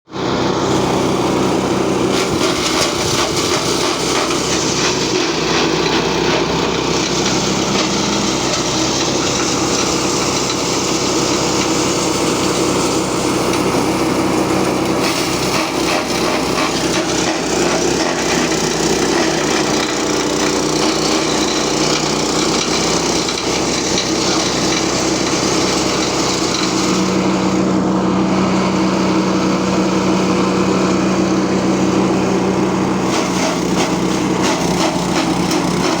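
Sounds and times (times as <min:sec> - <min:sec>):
small petrol engine running: 0:00.0 - 0:36.0
fodder shredding hiss: 0:00.5 - 0:27.7, 0:28.3 - 0:36.0.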